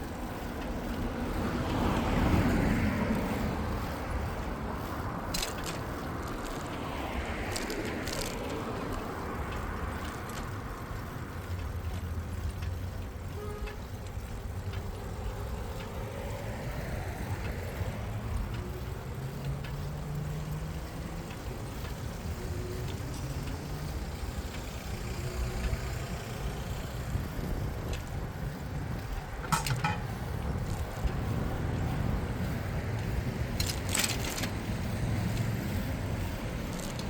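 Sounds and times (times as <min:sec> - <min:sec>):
car passing: 0:00.0 - 0:37.0
traffic rumble: 0:00.0 - 0:37.0.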